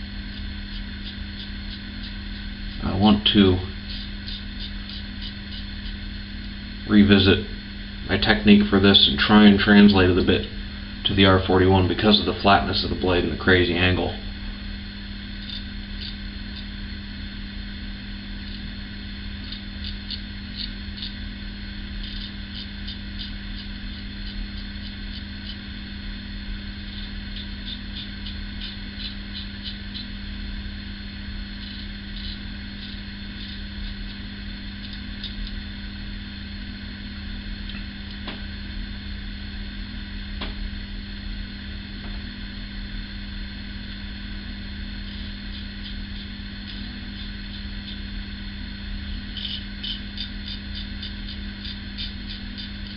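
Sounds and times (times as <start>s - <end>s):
low background hum: 0.0s - 52.9s
razor scraping stubble: 0.2s - 14.2s, 15.0s - 17.0s, 18.2s - 36.1s, 44.2s - 52.9s.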